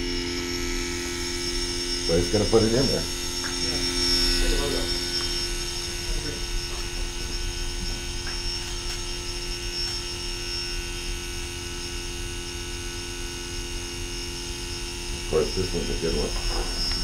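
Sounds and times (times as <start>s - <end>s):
electrical motor hum: 0.0s - 17.0s
faint high whine: 0.0s - 17.0s.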